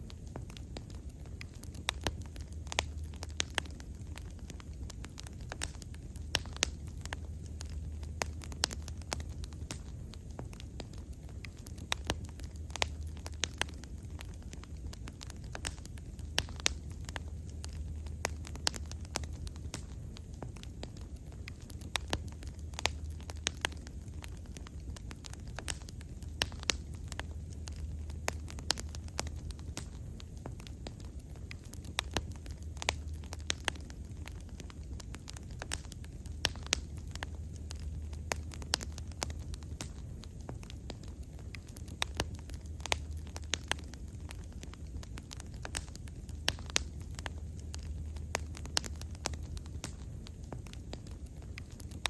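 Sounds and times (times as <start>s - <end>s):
bonfire crackling and popping: 0.0s - 52.0s
fire low rumble: 0.0s - 52.0s.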